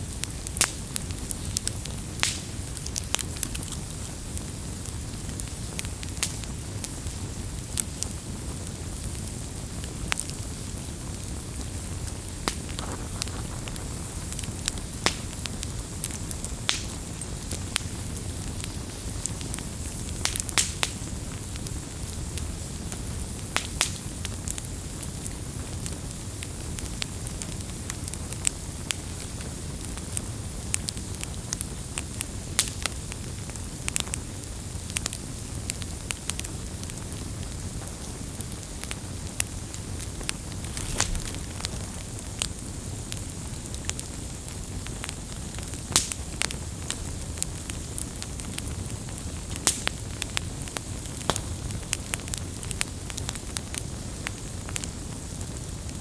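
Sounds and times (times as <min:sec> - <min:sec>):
campfire flames rumbling: 0:00.0 - 0:56.0
wood crackling and popping: 0:00.1 - 0:56.0.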